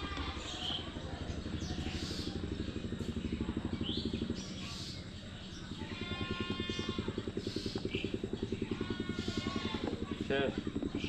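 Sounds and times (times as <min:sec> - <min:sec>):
small engine chugging: 0:00.0 - 0:11.0.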